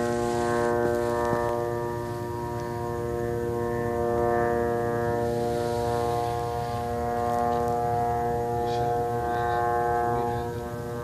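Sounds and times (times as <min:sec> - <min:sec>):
drone buzzing hum overhead: 0:00.0 - 0:11.0.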